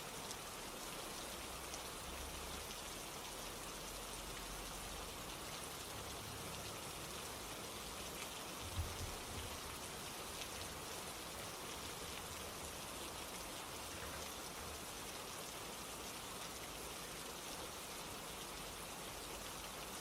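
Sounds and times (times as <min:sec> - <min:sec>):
rain drops ticking: 0:00.0 - 0:20.0
steady rain: 0:00.0 - 0:20.0.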